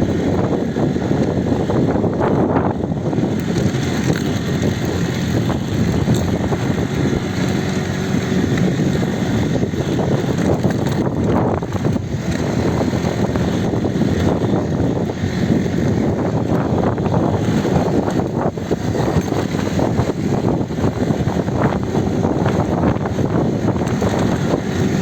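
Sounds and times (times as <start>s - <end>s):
atv engine running: 0.0s - 25.0s
wind buffeting microphone: 0.0s - 25.0s.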